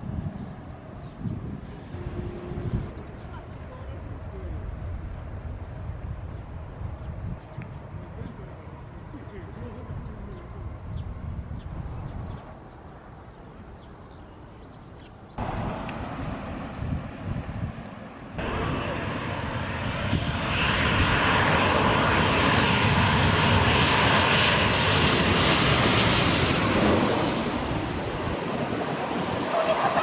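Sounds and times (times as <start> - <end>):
jet airliner passing overhead: 0.0 - 14.7, 15.4 - 30.0.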